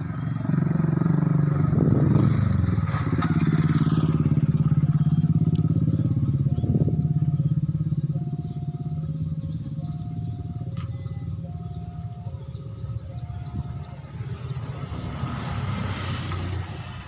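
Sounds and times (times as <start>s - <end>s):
motorcycle passing: 0.0s - 17.0s
small motorcycle engine running: 0.0s - 17.0s.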